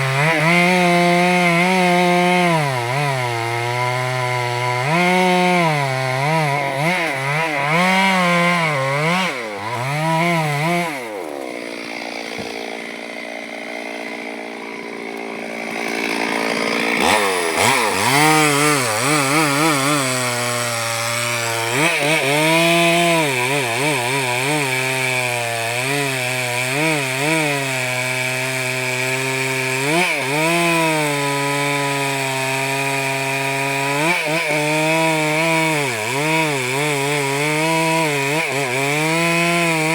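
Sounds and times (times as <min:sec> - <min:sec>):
chainsaw cutting a tree: 0:00.0 - 0:39.9.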